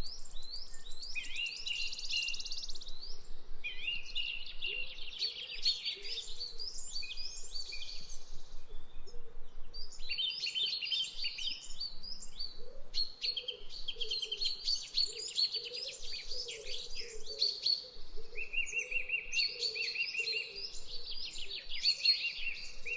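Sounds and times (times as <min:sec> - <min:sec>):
small birds chirping and trilling: 0:00.0 - 0:22.9.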